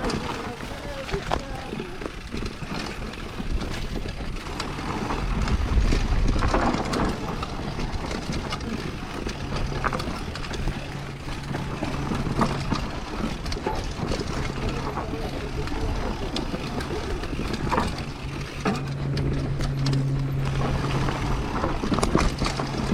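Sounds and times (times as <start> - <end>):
bike knocking and rattling: 0.0 - 22.9
bike tyres on dirt: 0.0 - 22.9
wind on microphone: 0.0 - 22.9.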